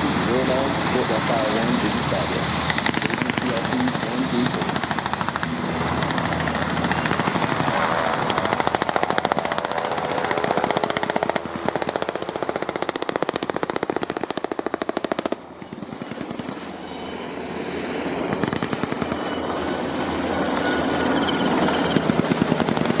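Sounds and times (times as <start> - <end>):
helicopter rotors chopping: 0.0 - 23.0
turbine engine whine: 0.0 - 23.0.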